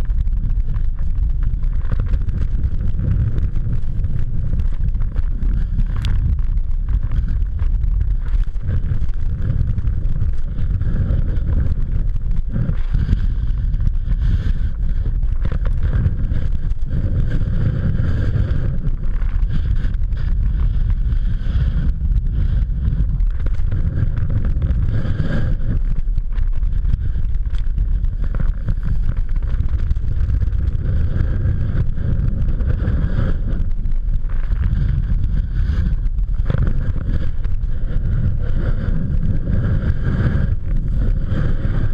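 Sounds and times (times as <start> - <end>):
skis sliding over packed snow: 0.0 - 41.9
wind buffeting microphone: 0.0 - 41.9.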